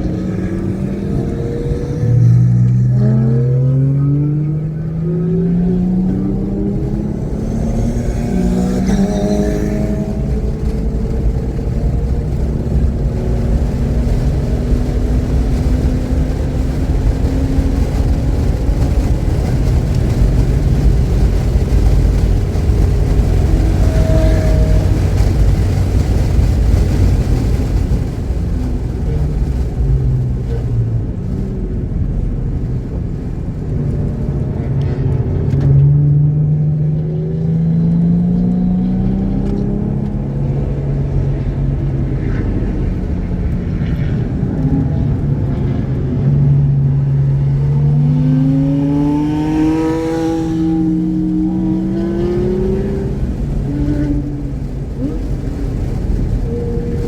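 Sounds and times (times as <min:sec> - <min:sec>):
car engine revving on track: 0:00.0 - 0:57.0.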